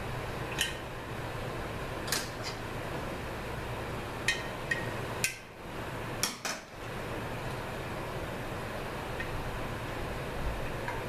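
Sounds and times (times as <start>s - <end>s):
low shop hum: 0.0s - 11.0s.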